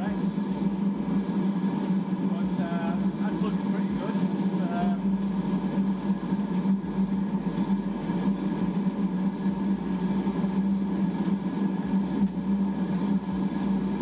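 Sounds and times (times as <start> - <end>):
gas forge burner rumbling: 0.0 - 14.0.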